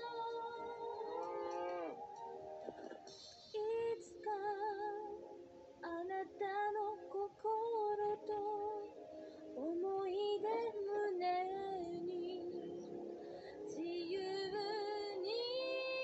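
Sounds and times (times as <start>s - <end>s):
soft backing music: 0.0s - 16.0s.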